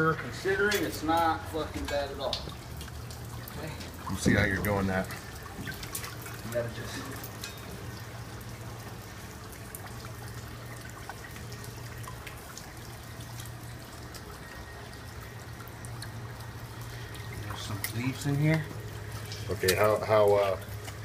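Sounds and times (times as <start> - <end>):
steady low hum: 0.0 - 21.0
water trickling and dripping: 0.0 - 21.0.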